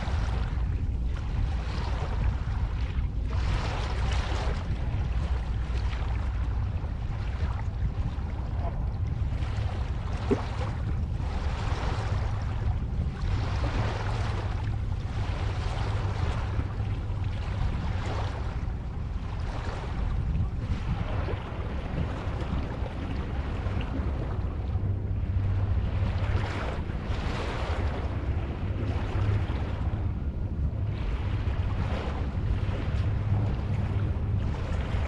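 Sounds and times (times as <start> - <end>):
deep low rumble: 0.0 - 35.0
waves breaking: 0.0 - 35.0.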